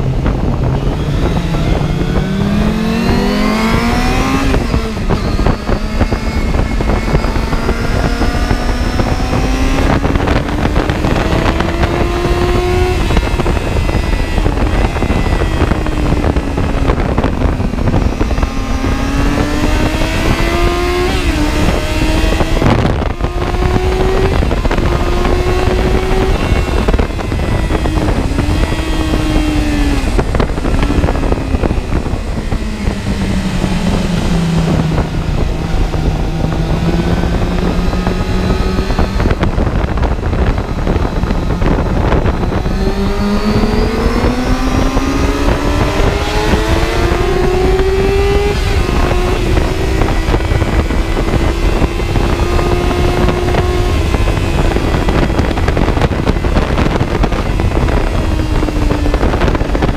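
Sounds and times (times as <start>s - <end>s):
vehicle engine accelerating: 0.0s - 59.9s
wind rushing over microphone: 0.0s - 59.9s.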